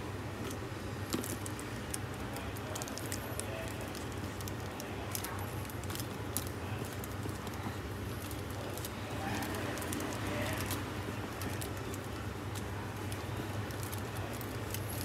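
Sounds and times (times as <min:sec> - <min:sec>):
plastic glove crinkling: 0:00.4 - 0:15.0.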